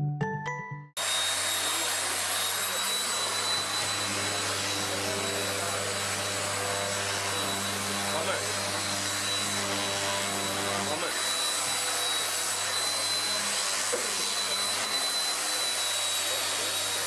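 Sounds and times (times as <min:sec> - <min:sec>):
electric hand planer whining: 0:01.0 - 0:17.0.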